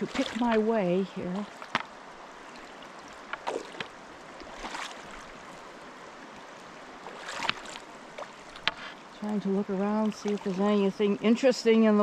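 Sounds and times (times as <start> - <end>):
feet wading and splashing: 0.0 - 9.1, 9.7 - 10.9
shallow river water running: 0.0 - 12.0.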